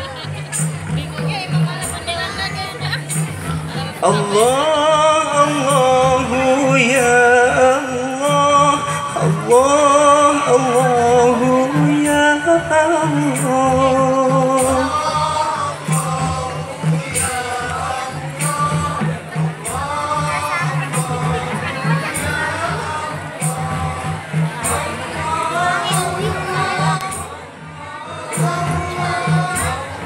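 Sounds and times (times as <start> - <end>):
person singing: 4.0 - 30.0.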